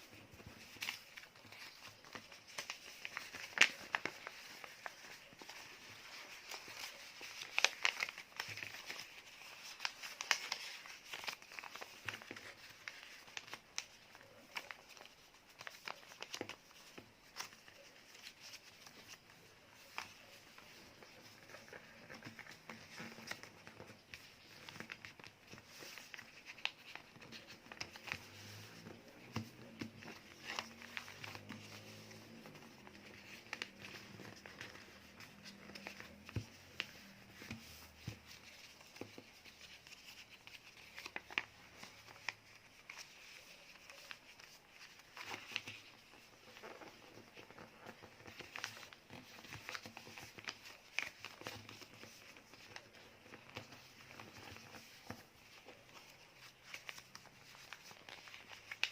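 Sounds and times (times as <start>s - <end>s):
paper rustling and crinkling: 0.0s - 58.9s.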